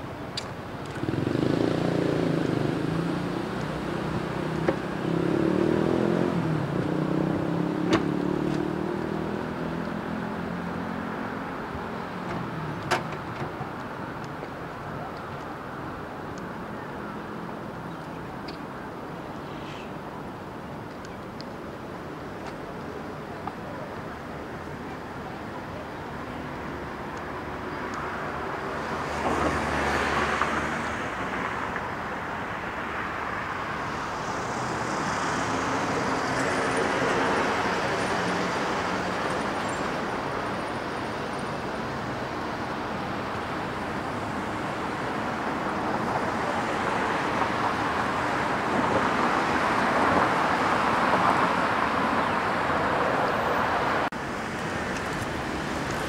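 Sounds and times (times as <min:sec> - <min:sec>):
vehicles driving past: 0:00.0 - 0:56.0.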